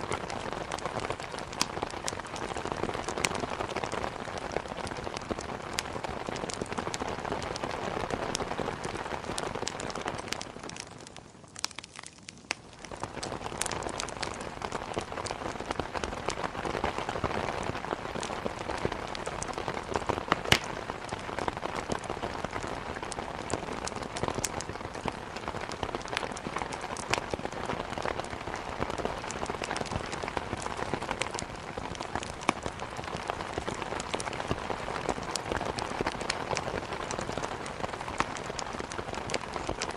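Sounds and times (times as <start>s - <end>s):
heavy rain: 0.0s - 39.9s
wood fire crackling: 0.0s - 39.9s.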